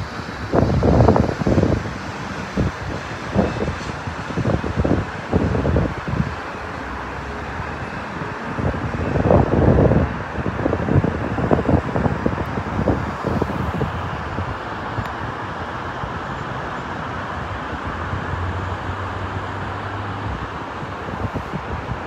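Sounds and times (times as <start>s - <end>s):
city road traffic hiss: 0.0s - 22.0s
wind buffeting microphone: 0.0s - 22.0s.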